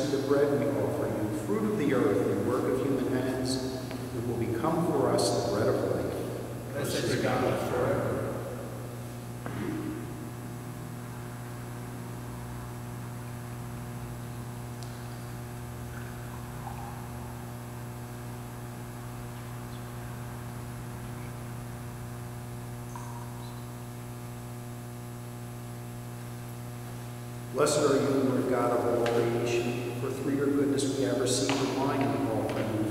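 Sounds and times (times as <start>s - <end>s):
electrical mains hum: 0.0s - 32.9s.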